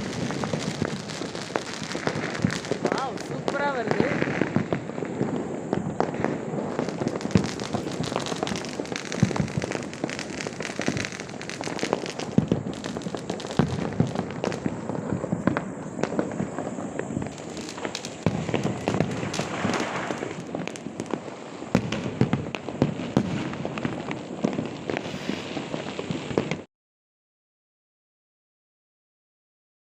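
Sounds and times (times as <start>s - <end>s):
fireworks and firecrackers bangs: 0.0s - 26.7s.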